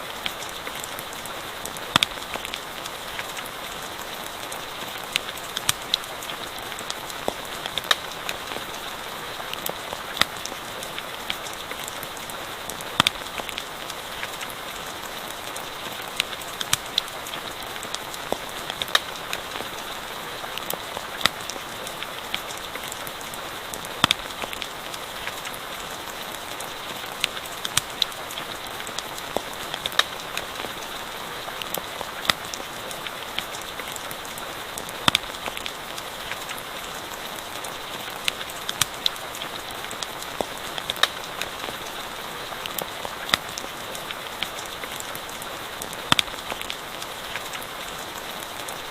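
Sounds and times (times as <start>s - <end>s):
steady rainfall: 0.0s - 48.9s
campfire crackling and popping: 0.1s - 48.9s.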